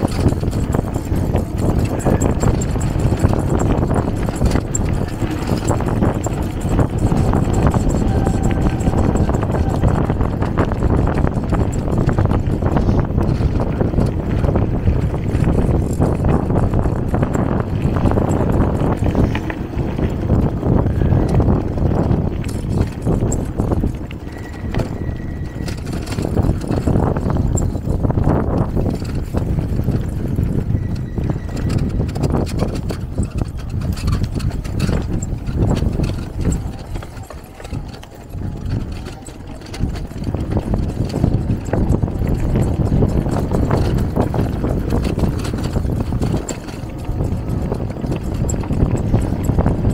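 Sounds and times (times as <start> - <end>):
bike rattles and knocks: 0.0 - 49.9
low rumble of bike riding: 0.0 - 49.9
wind buffeting microphone: 0.0 - 49.9.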